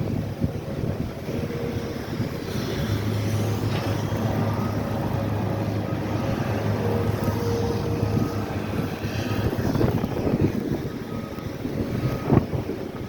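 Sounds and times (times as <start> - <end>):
snow-clearing machine engine humming: 0.0 - 13.0.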